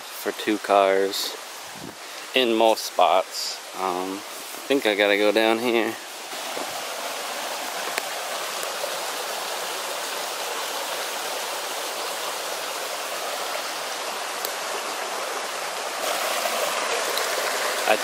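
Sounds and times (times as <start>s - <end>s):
water rushing from culvert pipe: 0.0s - 18.0s.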